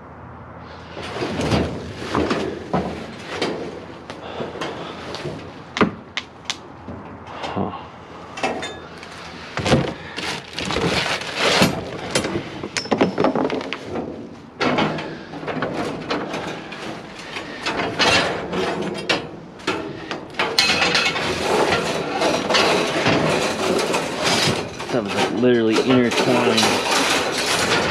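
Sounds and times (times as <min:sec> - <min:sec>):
scrap metal clanking and scraping: 0:00.7 - 0:06.1, 0:06.8 - 0:27.9.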